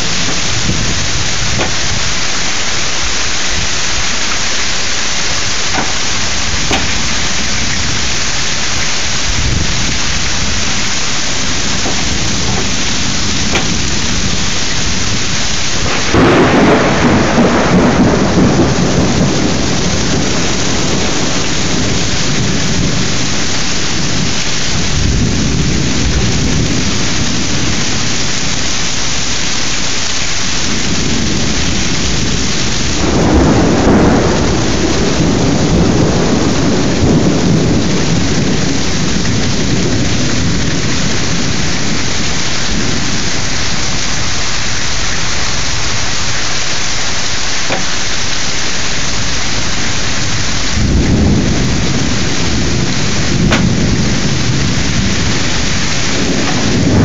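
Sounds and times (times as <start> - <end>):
thunderclap rumbling: 0.0 - 28.7, 30.6 - 46.4, 48.9 - 57.0
heavy rain pouring: 0.0 - 57.0.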